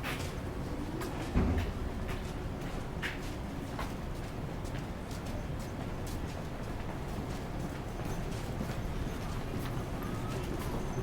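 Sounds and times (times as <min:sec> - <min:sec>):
street ambience: 0:00.0 - 0:11.0.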